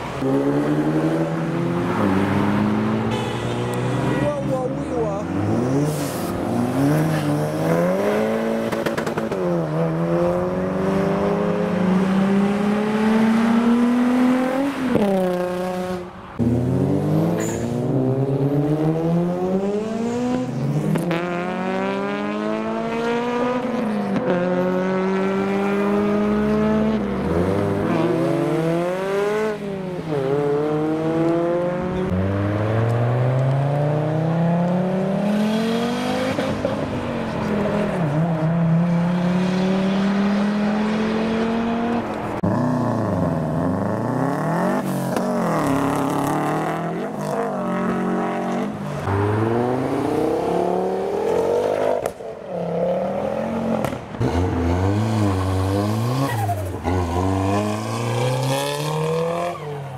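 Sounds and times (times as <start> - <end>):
cars accelerating past: 0.0 - 59.9.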